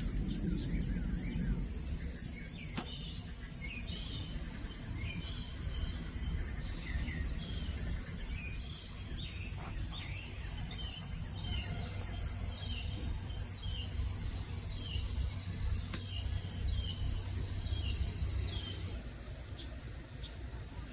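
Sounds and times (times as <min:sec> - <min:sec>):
low rumble: 0:00.0 - 0:20.0
high insect chorus: 0:00.0 - 0:20.9
songbird chirping: 0:00.0 - 0:20.9.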